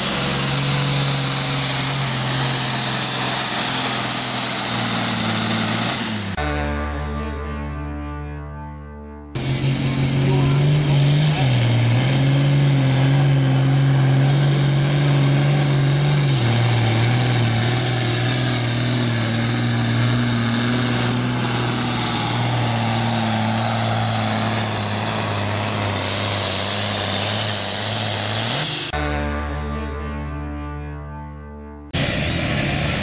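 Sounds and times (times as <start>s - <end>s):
tractor diesel engine under load: 0.0s - 7.0s, 9.4s - 29.5s, 31.9s - 33.0s.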